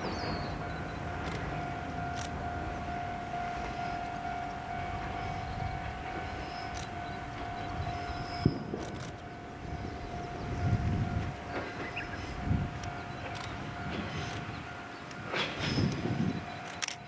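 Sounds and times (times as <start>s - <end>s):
diesel railcar whine and rumble: 0.0s - 17.0s.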